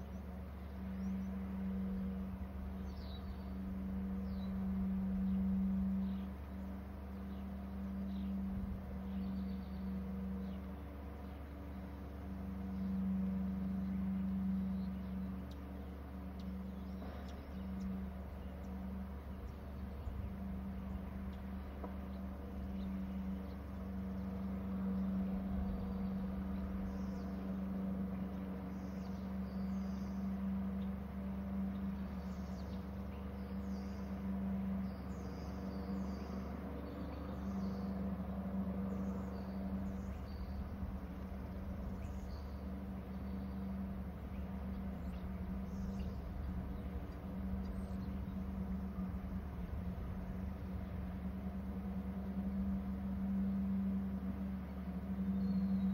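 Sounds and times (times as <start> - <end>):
birds chirping: 0.0 - 55.9
low hum with rumble: 0.0 - 55.9.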